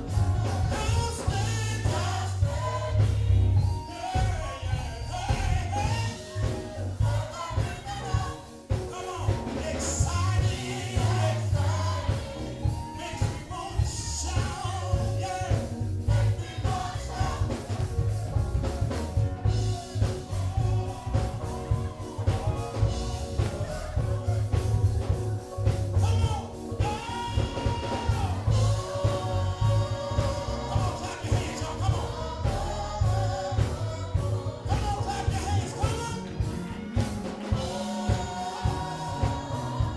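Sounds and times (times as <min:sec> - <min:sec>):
band with pulsing bass beat: 0:00.0 - 0:39.9
gospel singers: 0:00.0 - 0:39.9.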